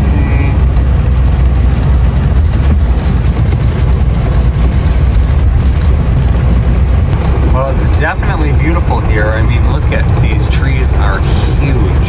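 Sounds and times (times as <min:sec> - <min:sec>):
engine low rumble from inside cab: 0:00.0 - 0:12.0.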